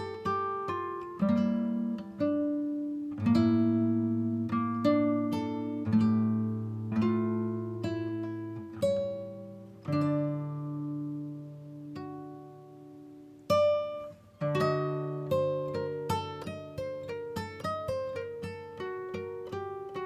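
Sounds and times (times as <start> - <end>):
plucked instrumental music: 0.0 - 20.0.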